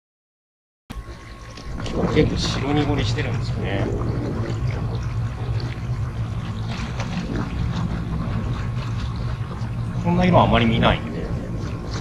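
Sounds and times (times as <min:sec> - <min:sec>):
trolling motor humming: 0:00.9 - 0:12.0
water lapping against hull: 0:00.9 - 0:12.0.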